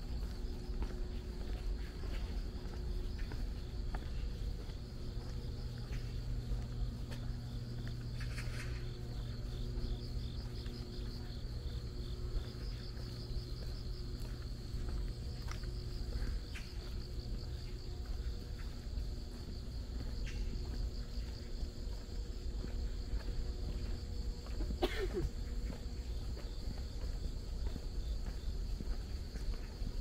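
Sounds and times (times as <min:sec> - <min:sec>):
insects chirping: 0:00.0 - 0:30.0
steady low hum: 0:00.0 - 0:30.0.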